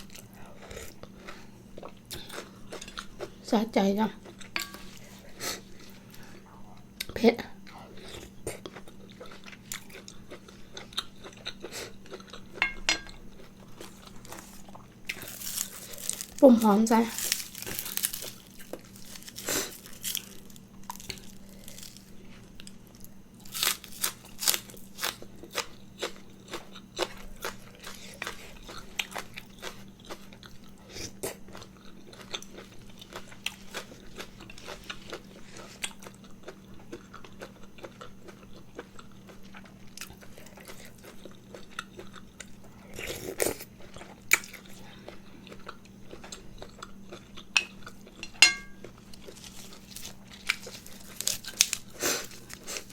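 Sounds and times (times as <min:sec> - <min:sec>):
person crunching crisp food: 0:07.6 - 0:52.9.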